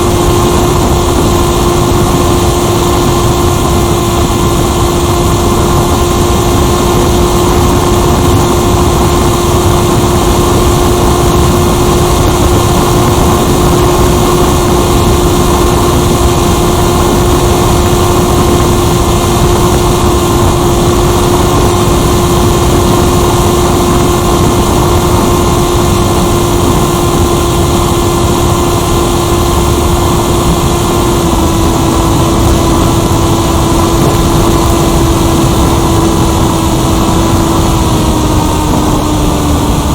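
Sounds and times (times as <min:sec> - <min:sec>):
electric motor and propeller hum: 0:00.0 - 0:39.9
rush of air: 0:00.0 - 0:39.9.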